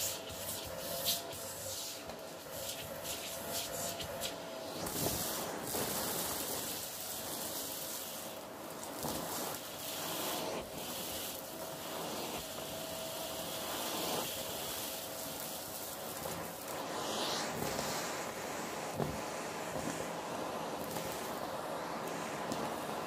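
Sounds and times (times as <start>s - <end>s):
vacuum sucking up debris from rug: 0.0s - 23.0s.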